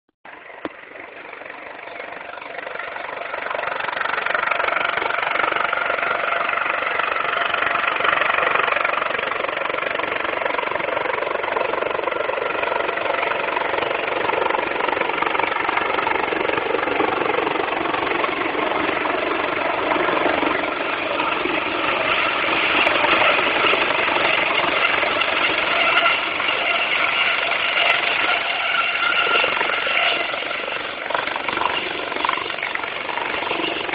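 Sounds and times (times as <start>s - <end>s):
helicopter rotor and engine: 0.3s - 33.9s.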